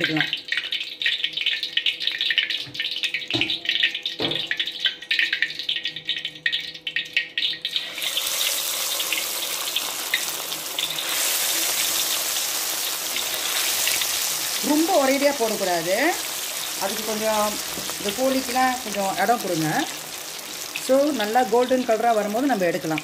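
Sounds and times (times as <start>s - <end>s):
chicken deep-frying sizzle: 0.0s - 23.0s
hot oil crackling: 0.0s - 23.0s.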